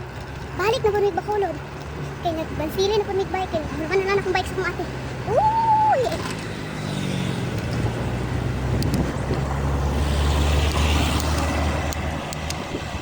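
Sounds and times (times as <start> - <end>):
vehicle engine passing by: 1.6 - 13.0.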